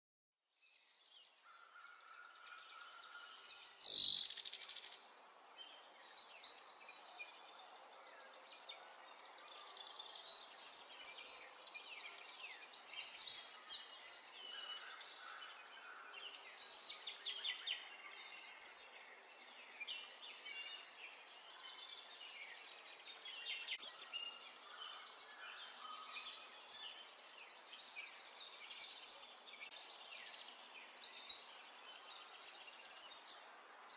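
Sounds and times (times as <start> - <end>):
birds chirping: 0.8 - 33.9.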